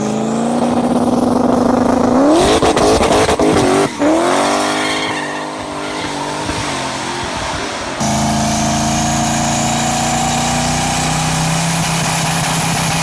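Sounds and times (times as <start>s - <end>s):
drag racing car engine revving: 0.0s - 13.0s.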